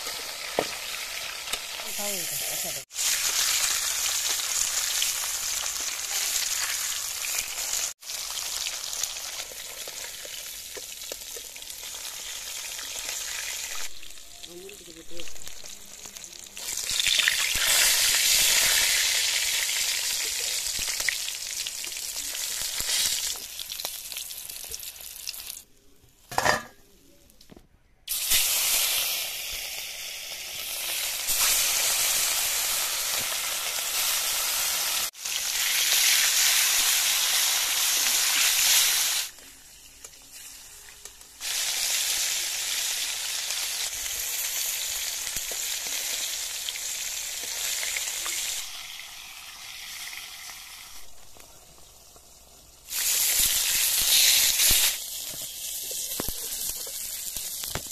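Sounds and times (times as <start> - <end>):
fish sizzling in hot oil: 0.0 - 25.6, 28.1 - 57.9.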